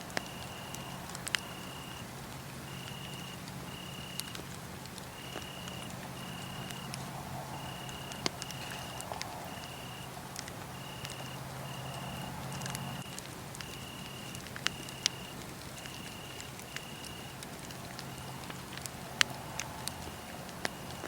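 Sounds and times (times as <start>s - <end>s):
crickets chirping: 0.0s - 21.0s
wood fire crackling and popping: 0.0s - 21.0s.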